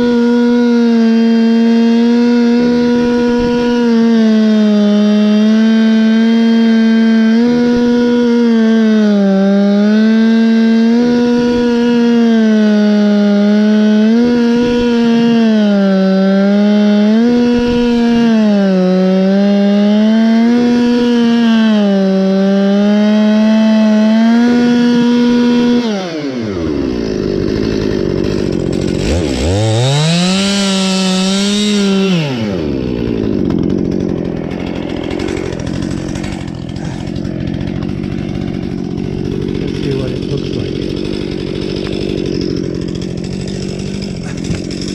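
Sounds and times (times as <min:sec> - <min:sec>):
chainsaw cutting log: 0:00.0 - 0:44.9
chainsaw idling: 0:00.0 - 0:44.9.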